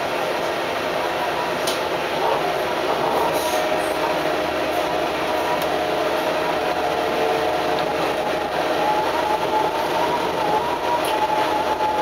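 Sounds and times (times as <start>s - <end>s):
railcar running with whine: 0.0s - 12.0s.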